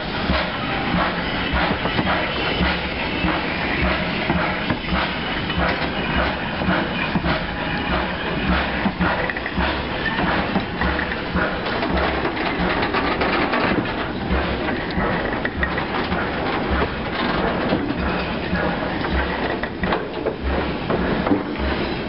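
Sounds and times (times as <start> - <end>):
train wheels clattering on rails: 0.0 - 22.0
low thumps over rail joints: 0.2 - 21.8.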